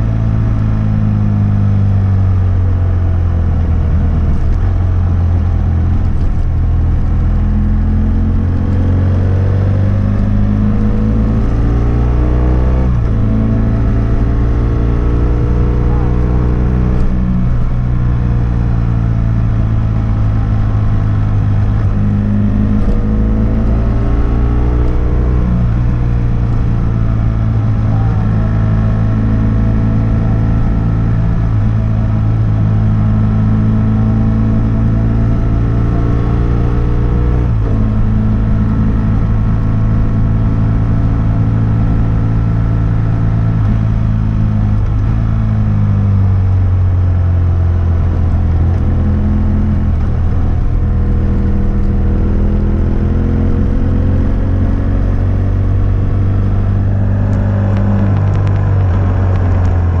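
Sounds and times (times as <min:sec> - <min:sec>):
motorcycle exhaust while riding: 0:00.0 - 1:00.0.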